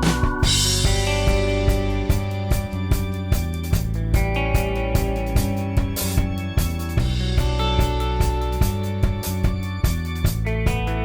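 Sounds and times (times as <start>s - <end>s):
guitar and drums instrumental: 0.0s - 11.0s.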